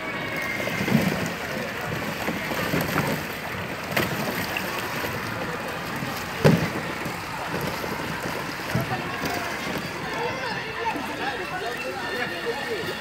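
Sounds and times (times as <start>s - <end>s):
paddle wheels churning water: 0.0s - 13.0s.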